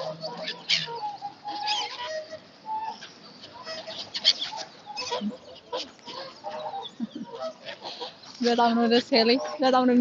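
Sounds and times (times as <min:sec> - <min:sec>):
ducks and geese calling: 0:00.0 - 0:10.0.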